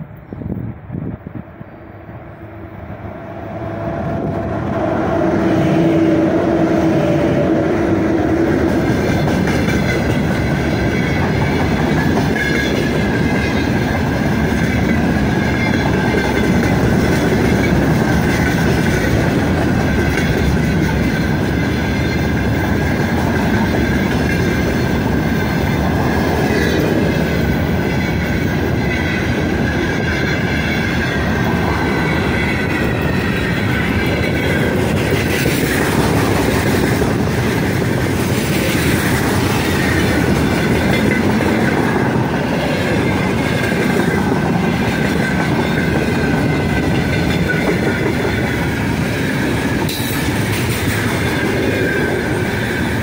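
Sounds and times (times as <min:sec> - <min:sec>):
electric locomotive humming: 0:00.0 - 0:53.0
freight wagons rumbling on rail: 0:00.0 - 0:53.0.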